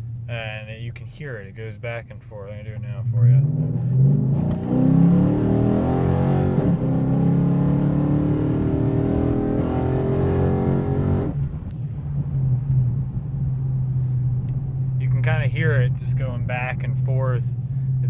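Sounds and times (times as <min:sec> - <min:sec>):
car engine accelerating: 0:02.6 - 0:18.0.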